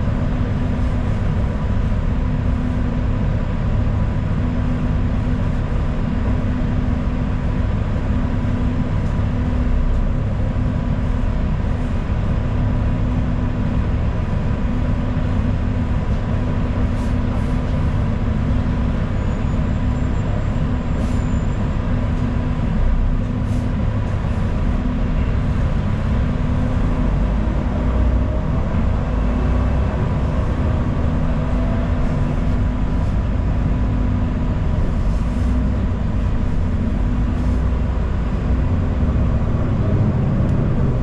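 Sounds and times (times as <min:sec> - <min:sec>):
bus rumbling in motion: 0:00.0 - 0:41.0.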